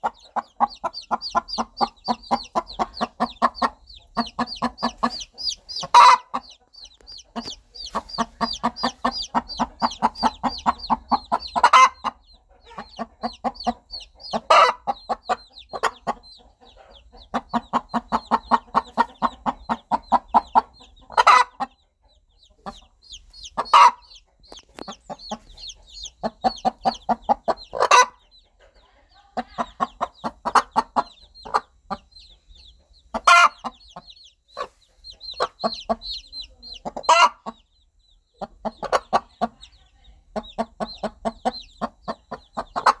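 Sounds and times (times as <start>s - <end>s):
chicks peeping: 0.0s - 43.0s
hen clucking: 0.0s - 43.0s.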